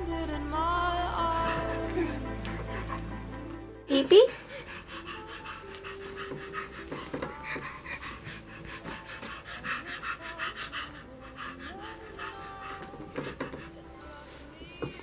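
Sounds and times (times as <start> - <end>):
soft background music: 0.0 - 15.0
baby panting: 1.2 - 15.0.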